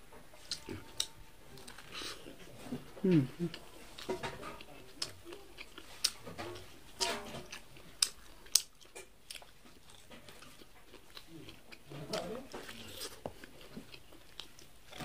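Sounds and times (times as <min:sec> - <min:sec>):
chewing corn on the cob: 0:00.3 - 0:15.0.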